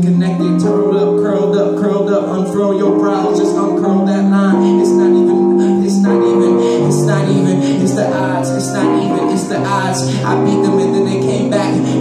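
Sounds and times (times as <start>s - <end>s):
man singing: 0.0s - 12.0s
piano chords: 0.0s - 12.0s.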